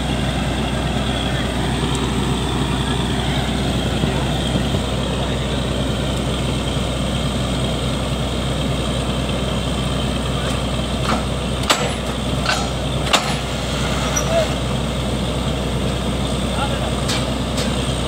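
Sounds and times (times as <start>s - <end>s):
drilling rig engine drone: 0.0s - 18.0s.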